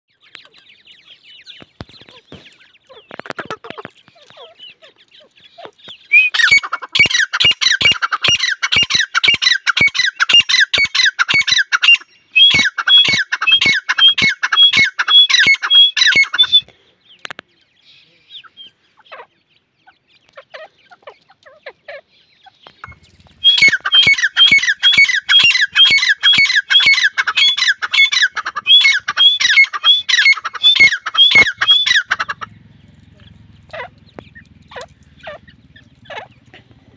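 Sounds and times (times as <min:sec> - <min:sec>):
bird calling shrill repeated notes: 0:00.1 - 0:16.7, 0:20.4 - 0:36.7.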